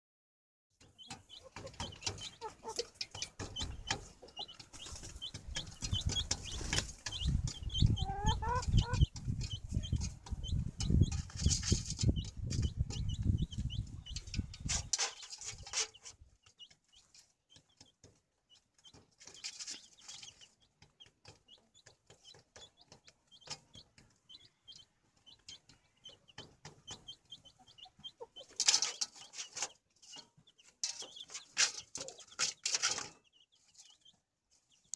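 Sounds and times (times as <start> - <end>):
hen clucking: 0.8 - 34.2
chicks peeping: 0.8 - 34.9.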